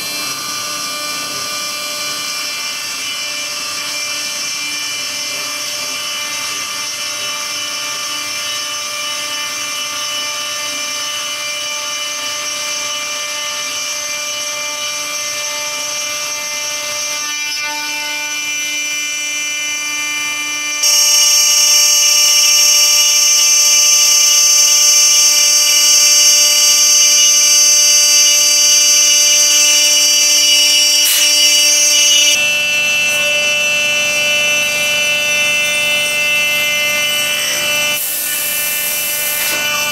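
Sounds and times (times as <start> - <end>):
cnc router milling metal: 0.0 - 39.9.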